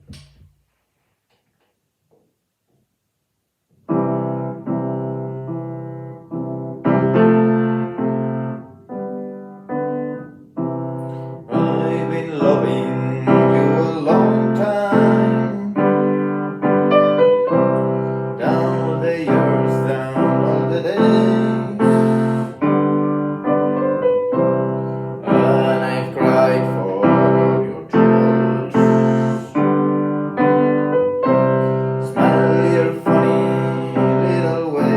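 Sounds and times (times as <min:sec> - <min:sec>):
piano chords: 0:03.8 - 0:34.9.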